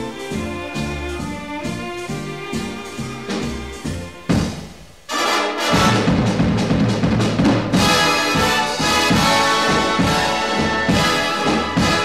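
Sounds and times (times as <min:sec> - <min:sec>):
big band brass music: 0:00.0 - 0:12.0.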